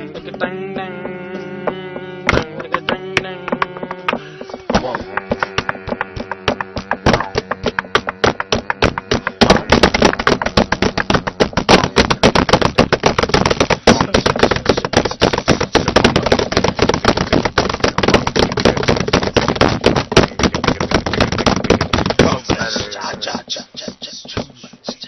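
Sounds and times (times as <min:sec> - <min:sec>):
rapid percussive clicks and knocks: 0:00.2 - 0:25.0.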